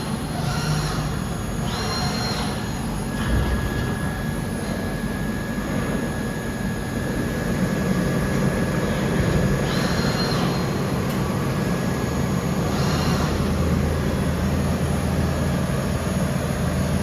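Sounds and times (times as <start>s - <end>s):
high machine whine: 0.0s - 17.0s
machining centre running: 0.0s - 17.0s
thin steady whine: 0.0s - 17.0s.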